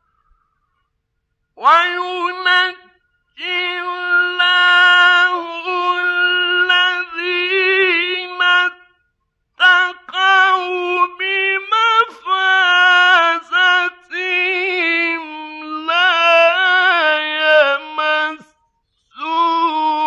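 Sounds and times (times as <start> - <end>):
man chanting melodically: 1.6 - 9.0, 9.6 - 20.0.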